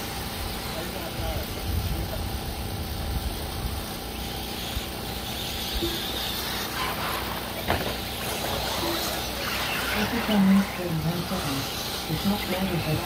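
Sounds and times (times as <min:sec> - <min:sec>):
low outdoor rumble: 0:00.0 - 0:13.0
rc car motor whir: 0:00.0 - 0:13.0.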